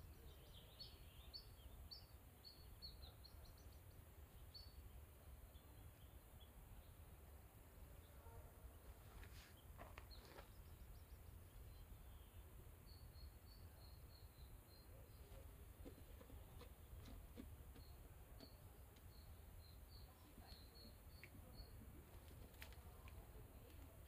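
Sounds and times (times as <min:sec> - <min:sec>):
small bird chirping faintly: 0:00.0 - 0:24.0.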